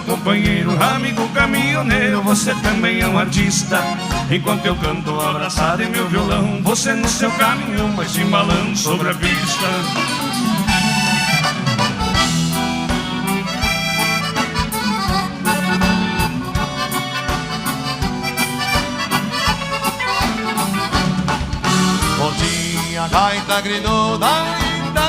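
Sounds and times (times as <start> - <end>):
bass: 0.0 - 25.0
button accordion melody: 0.0 - 25.0
steady drum beat: 0.0 - 25.0.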